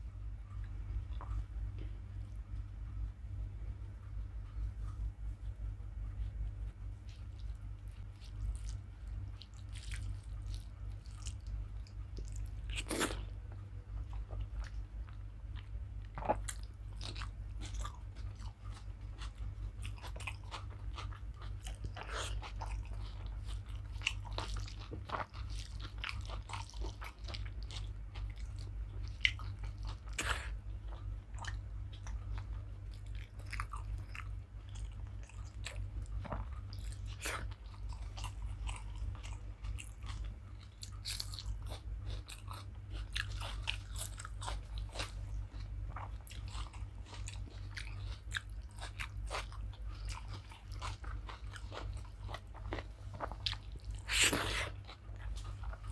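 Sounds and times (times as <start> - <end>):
steady low hum: 0.0 - 55.9
close-up chewing and crunching: 6.1 - 55.9.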